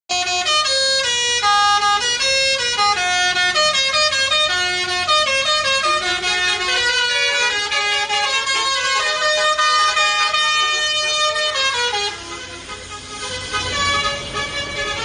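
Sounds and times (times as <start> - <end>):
multi-note air horn melody: 0.1 - 15.0.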